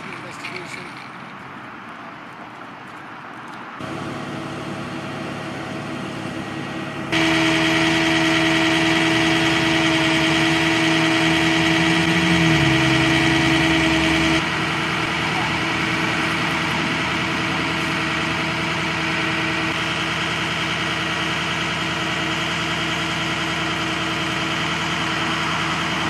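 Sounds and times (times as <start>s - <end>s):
vehicle engine idling: 3.8s - 26.0s.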